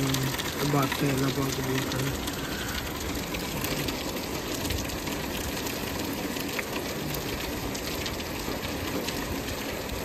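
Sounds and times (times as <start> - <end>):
heavy rain on pavement and cars: 0.0 - 10.0.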